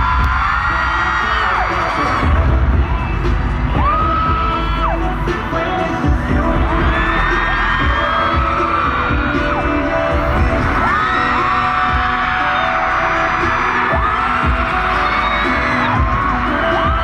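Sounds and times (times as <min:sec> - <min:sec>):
live pop music: 0:00.0 - 0:17.0
thumping bass beat: 0:00.0 - 0:17.0.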